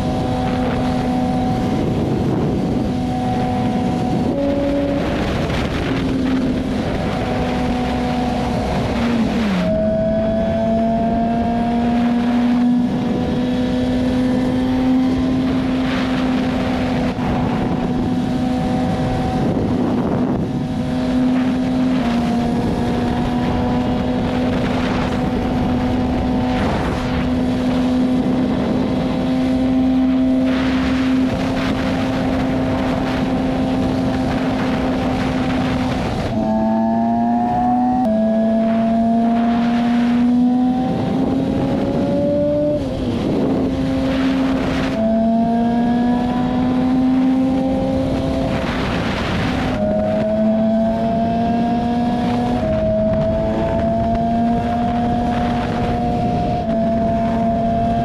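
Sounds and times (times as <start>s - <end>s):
motorcycle engine cruising: 0.0s - 58.0s
wind rushing: 0.0s - 58.0s.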